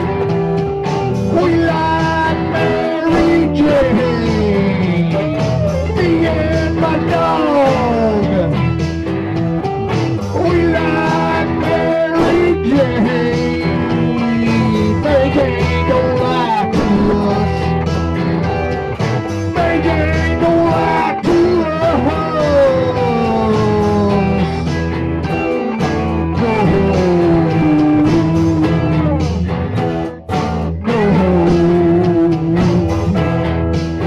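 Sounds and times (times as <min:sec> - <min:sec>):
bending guitar notes: 0:00.0 - 0:34.0
blues-rock band music: 0:00.0 - 0:34.0.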